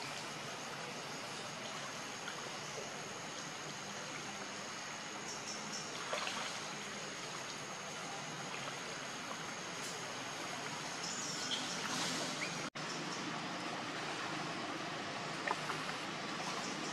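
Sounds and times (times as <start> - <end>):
steady hiss: 0.0 - 16.9.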